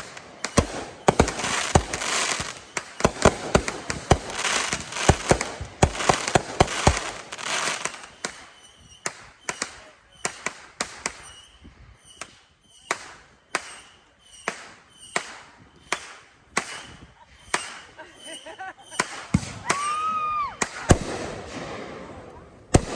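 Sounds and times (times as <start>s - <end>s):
fireworks crackling and banging: 0.0s - 22.9s.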